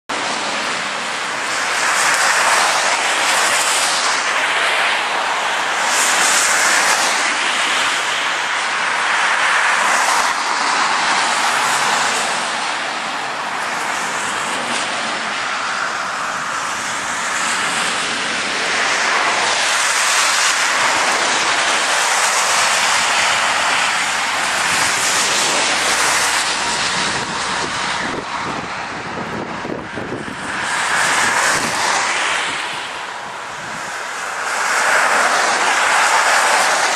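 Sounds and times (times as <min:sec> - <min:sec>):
tyres hissing through slush: 0:00.2 - 0:13.0, 0:13.6 - 0:28.0, 0:30.5 - 0:32.9, 0:33.8 - 0:36.9.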